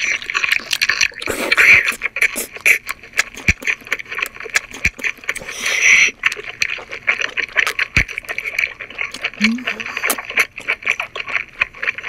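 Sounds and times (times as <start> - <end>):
person chewing wetly: 0.0 - 12.0.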